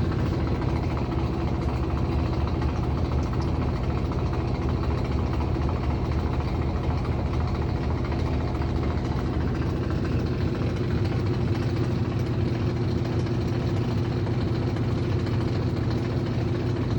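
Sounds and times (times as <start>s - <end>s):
washing machine humming: 0.0s - 16.9s.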